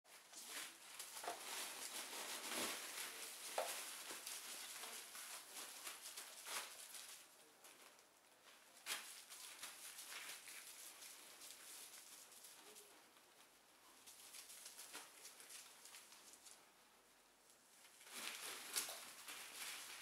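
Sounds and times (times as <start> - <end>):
bubble wrap crackling: 0.1 - 16.7, 17.4 - 20.0.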